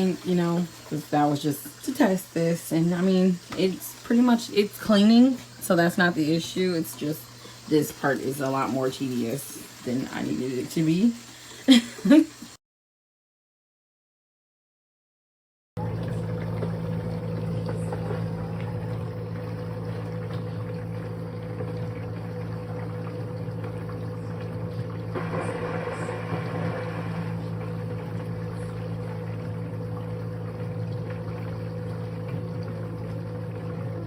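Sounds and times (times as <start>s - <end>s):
dishwasher pump motor humming: 0.0s - 12.6s, 15.8s - 34.0s
water spraying inside dishwasher: 0.0s - 12.6s, 16.0s - 34.0s.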